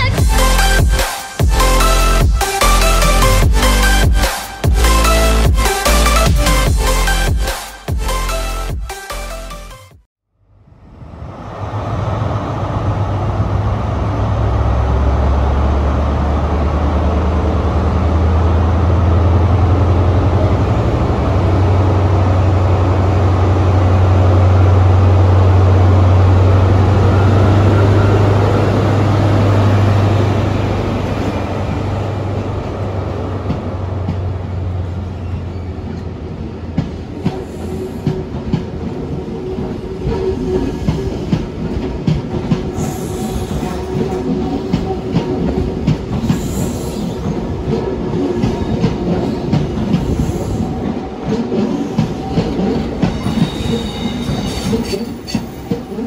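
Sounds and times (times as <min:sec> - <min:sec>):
train drone on track: 0:10.3 - 0:56.0.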